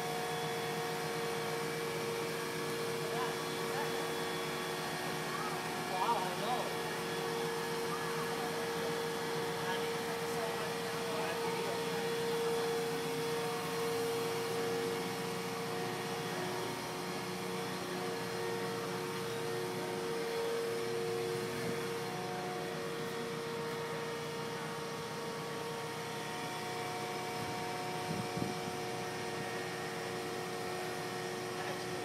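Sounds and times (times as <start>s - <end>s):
crane engine droning: 0.0s - 32.0s
steady whine: 0.0s - 32.0s.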